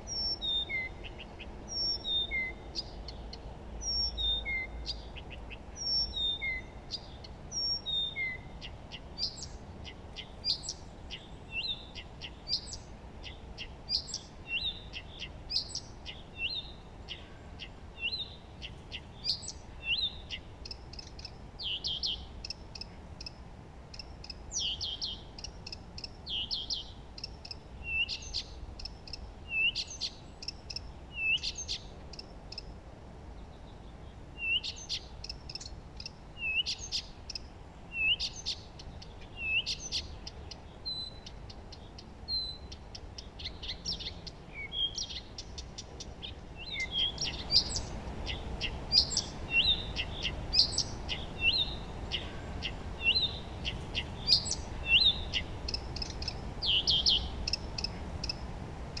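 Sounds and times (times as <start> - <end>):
faint background hiss: 0.0 - 59.0
songbirds singing: 0.0 - 59.0.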